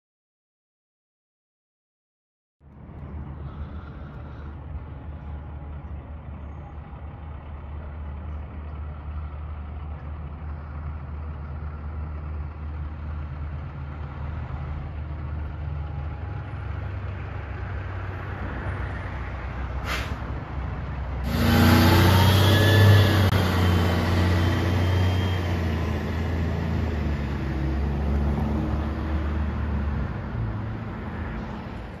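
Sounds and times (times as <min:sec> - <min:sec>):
fire engine diesel engine running: 0:02.8 - 0:32.0.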